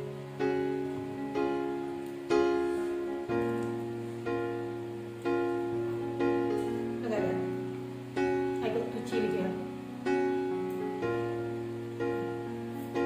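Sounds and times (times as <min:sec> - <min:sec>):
soft instrumental chords: 0:00.0 - 0:13.0.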